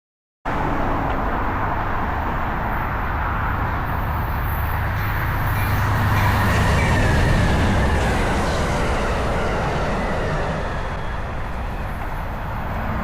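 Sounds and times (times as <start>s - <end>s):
train rumbling: 0.5s - 13.0s.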